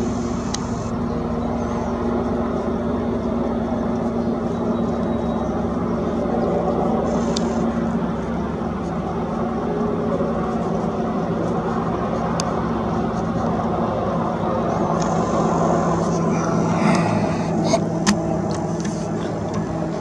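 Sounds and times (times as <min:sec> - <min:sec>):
helicopter flying overhead: 0:00.0 - 0:20.0.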